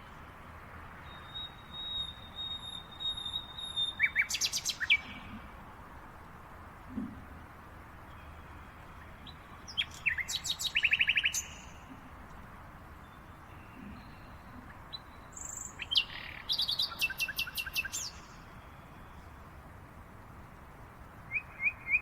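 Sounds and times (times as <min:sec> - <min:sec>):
songbirds chirping and trilling: 0:00.0 - 0:05.8, 0:08.0 - 0:22.0
steady background hiss: 0:00.0 - 0:22.0.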